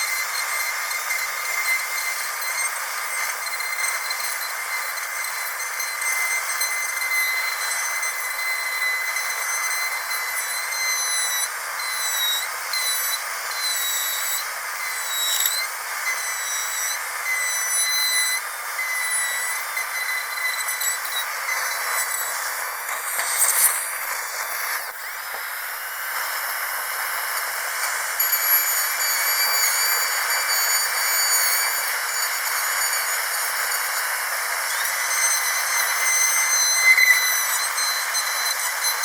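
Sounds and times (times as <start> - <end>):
dental drill whining: 0.0 - 39.0
hiss: 0.0 - 39.0.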